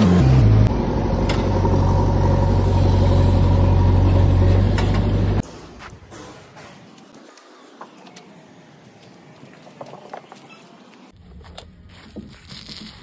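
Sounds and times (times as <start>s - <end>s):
faint outdoor background noise: 0.7s - 13.0s.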